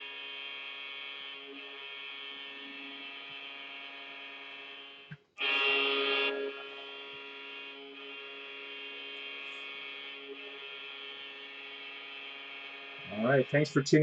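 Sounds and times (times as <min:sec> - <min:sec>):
electrical buzz: 0:01.5 - 0:14.0.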